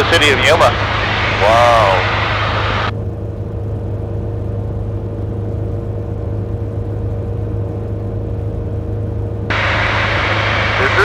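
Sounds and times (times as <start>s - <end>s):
muffled aircraft engine drone: 0.0s - 11.0s.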